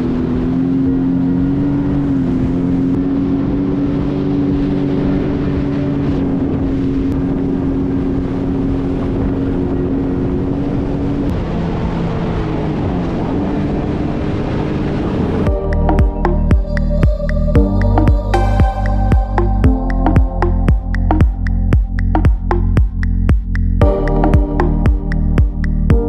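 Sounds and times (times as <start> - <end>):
jet ski engine running: 0.0 - 26.0.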